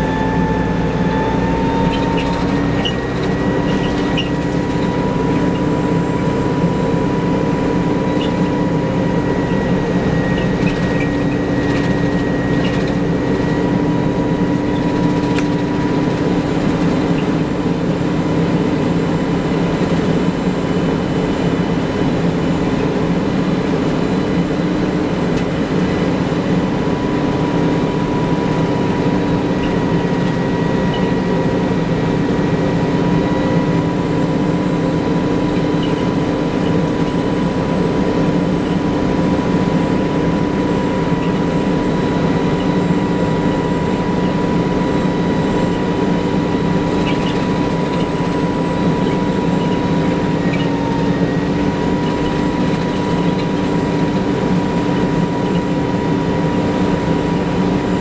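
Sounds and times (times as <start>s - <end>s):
bus engine droning: 0.0s - 58.0s
high transmission whine: 0.0s - 58.0s.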